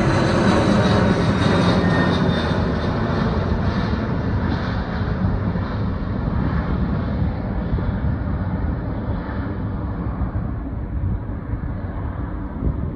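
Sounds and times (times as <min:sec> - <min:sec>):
jet engine rumble: 0:00.0 - 0:12.9.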